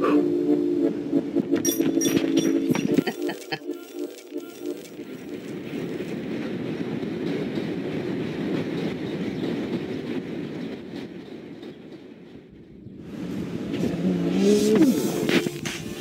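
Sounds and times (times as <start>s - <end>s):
elevated train passing on track: 0.0s - 16.0s.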